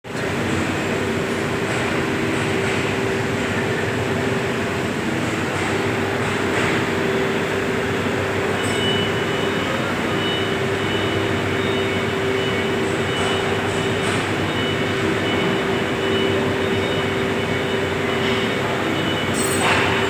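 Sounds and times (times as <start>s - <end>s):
machinery hum: 0.1s - 20.0s.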